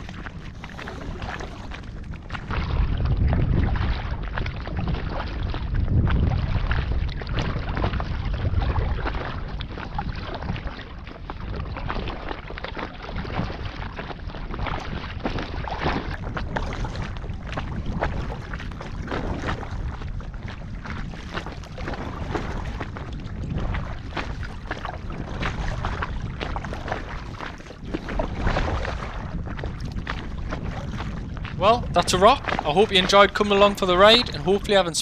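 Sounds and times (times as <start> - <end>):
water splashing against kayak: 0.0 - 35.0
wind rumbling on microphone: 0.0 - 35.0.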